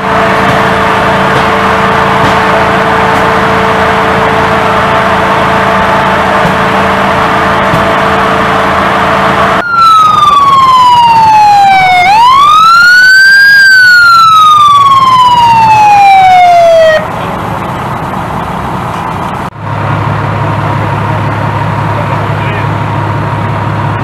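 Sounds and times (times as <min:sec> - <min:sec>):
engine noise: 0:00.0 - 0:24.0
fire engine siren wailing: 0:00.0 - 0:24.0.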